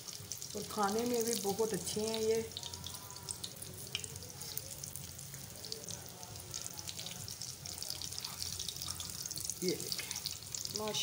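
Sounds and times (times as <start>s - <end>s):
bread sizzling in hot fat: 0.0s - 11.0s.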